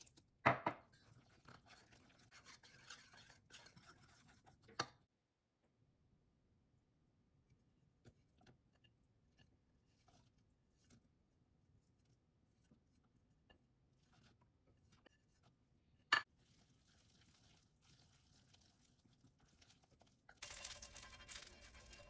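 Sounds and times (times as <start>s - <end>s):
spoon stirring in steel bowl: 0.0s - 5.1s, 8.0s - 22.0s.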